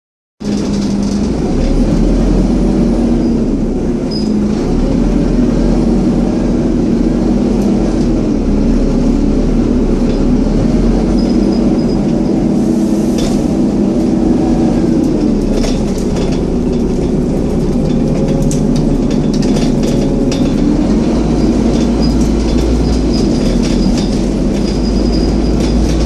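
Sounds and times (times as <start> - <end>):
bus engine and fan drone: 0.4 - 26.0.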